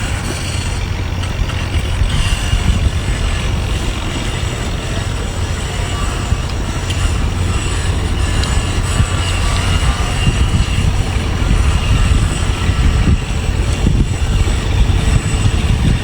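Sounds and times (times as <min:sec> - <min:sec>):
constant hum: 0:00.0 - 0:16.0
low rumble: 0:00.0 - 0:16.0.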